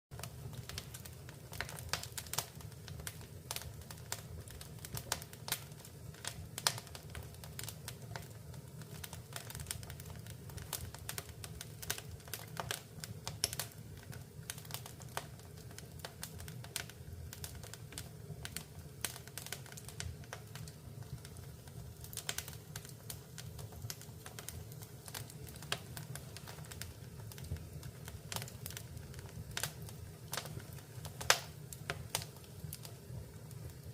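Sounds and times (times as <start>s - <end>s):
fire crackling and popping: 0.1s - 33.9s.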